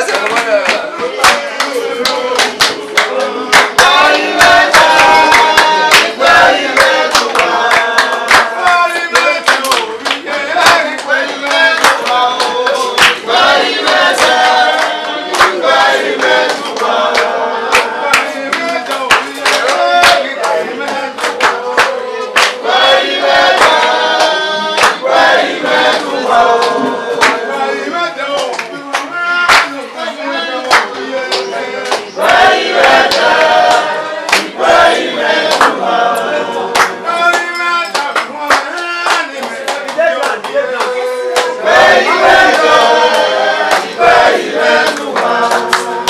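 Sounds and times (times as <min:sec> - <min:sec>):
group of voices singing: 0:00.0 - 0:46.0
hands clapping: 0:00.0 - 0:46.0.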